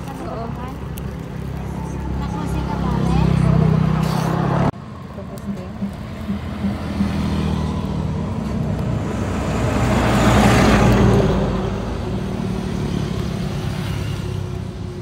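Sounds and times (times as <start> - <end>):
low engine hum: 0.0 - 15.0
vehicle passing: 0.0 - 15.0.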